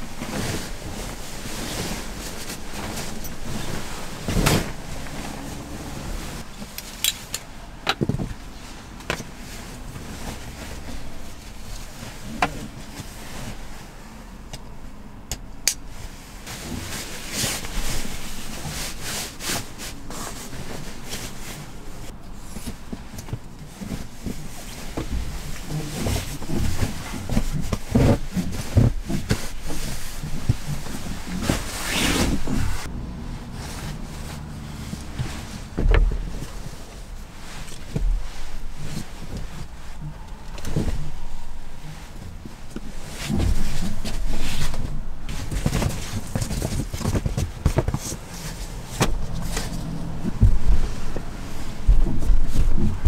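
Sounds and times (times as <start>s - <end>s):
fabric rustling and rubbing: 0.0s - 7.6s, 8.2s - 14.3s, 15.9s - 53.0s.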